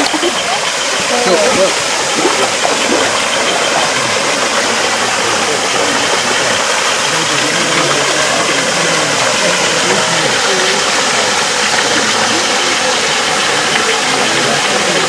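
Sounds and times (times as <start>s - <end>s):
spring water falling into pool: 0.0s - 15.0s.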